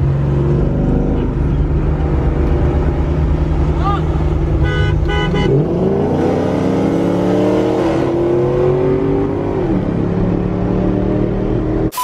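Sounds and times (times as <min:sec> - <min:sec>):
car engine accelerating hard: 0:00.0 - 0:11.9.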